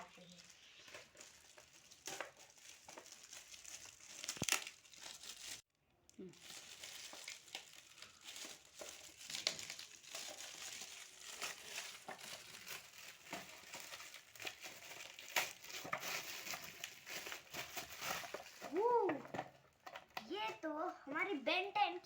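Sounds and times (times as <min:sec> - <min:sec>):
wrapping paper crinkling and tearing: 0:00.0 - 0:20.5.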